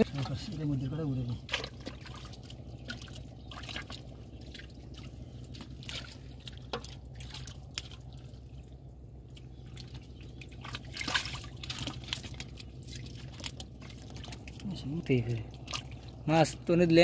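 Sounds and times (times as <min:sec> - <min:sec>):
muddy water splashing: 0:00.0 - 0:17.0.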